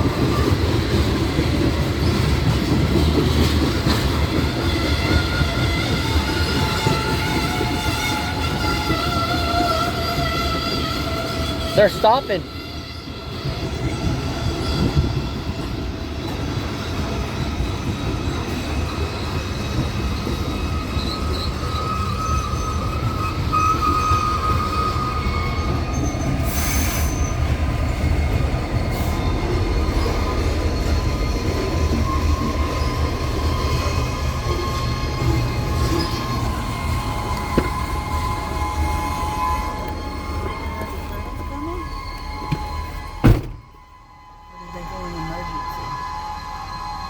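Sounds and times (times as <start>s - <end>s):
train wheels squealing: 0.0s - 47.0s.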